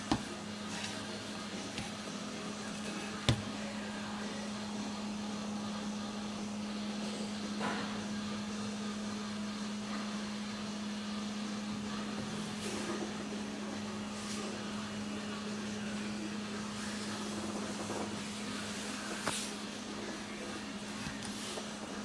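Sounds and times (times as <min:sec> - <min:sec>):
low electric hum of machinery: 0:00.0 - 0:22.0.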